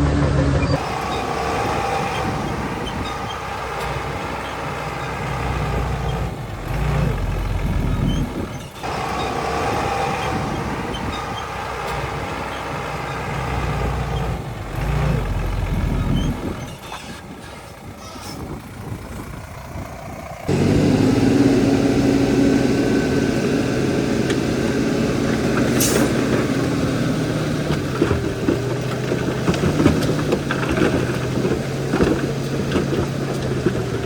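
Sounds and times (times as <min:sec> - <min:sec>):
heavy diesel engine rumbling: 0:00.0 - 0:34.0.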